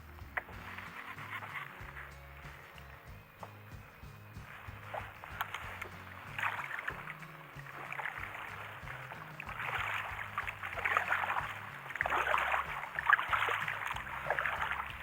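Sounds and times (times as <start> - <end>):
paddle splashing water: 0.1 - 15.0.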